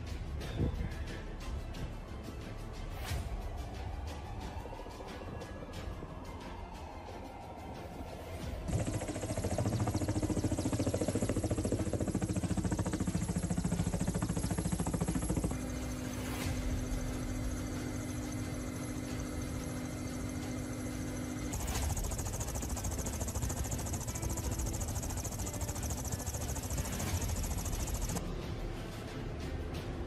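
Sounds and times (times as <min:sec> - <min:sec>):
engine hum and whine: 0:03.4 - 0:28.9
helicopter rotors beating: 0:03.5 - 0:28.2.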